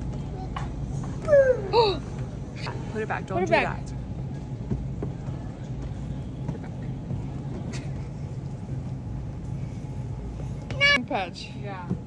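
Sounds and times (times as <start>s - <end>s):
store background hum: 0.0s - 12.0s.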